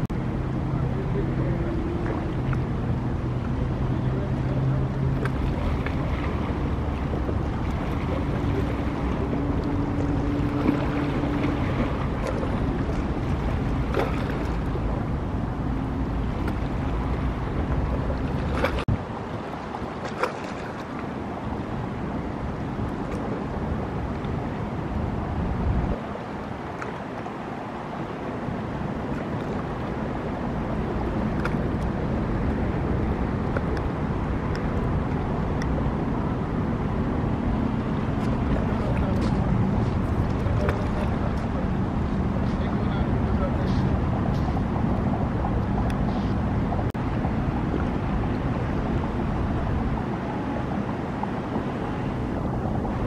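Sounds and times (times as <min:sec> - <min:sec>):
motorboat engines running: 0:00.0 - 0:53.0
wind noise on microphone: 0:00.0 - 0:53.0.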